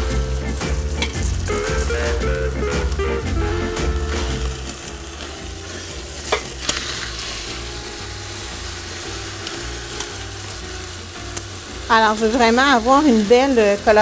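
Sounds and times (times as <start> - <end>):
faint background music: 0.0 - 14.0
meat sizzling in a pot: 0.0 - 14.0.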